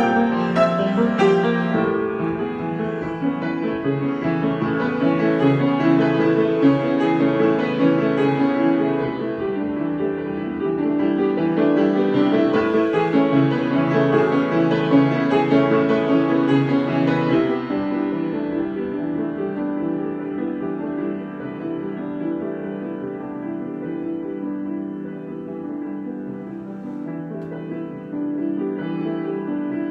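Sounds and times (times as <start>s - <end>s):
piano improvisation: 0.0s - 29.9s.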